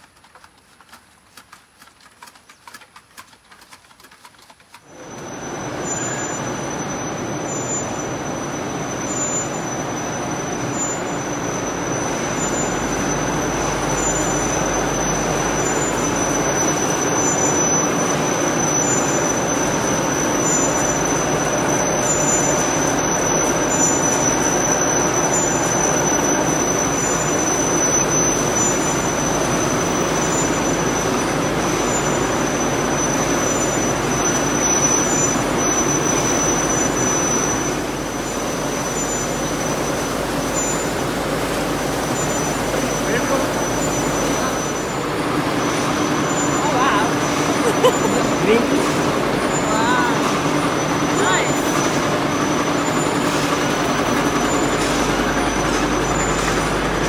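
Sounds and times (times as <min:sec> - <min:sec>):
high machine whine: 0:04.9 - 0:57.0
factory machinery din: 0:05.0 - 0:57.0.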